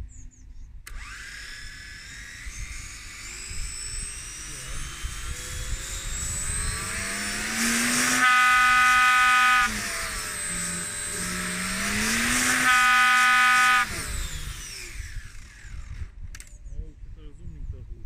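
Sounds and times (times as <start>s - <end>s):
electric motor and propeller whine: 0.8s - 17.3s.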